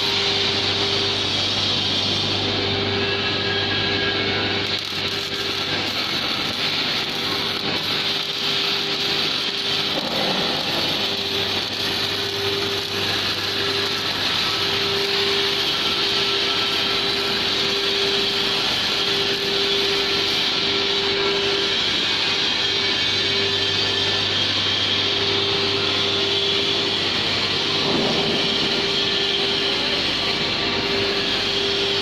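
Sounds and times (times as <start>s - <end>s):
steady hum: 0.0s - 32.0s
welding arc crackling: 4.0s - 32.0s.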